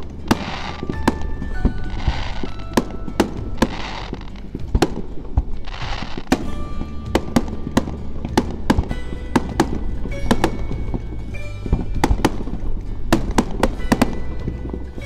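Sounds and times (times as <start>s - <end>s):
background music: 0.0s - 15.0s
fireworks bangs: 0.0s - 15.0s
hissing crackle of fireworks: 0.0s - 15.0s.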